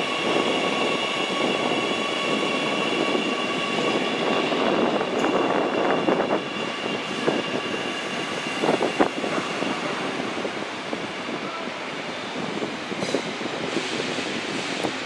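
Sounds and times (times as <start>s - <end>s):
train rolling on track: 0.0s - 15.0s.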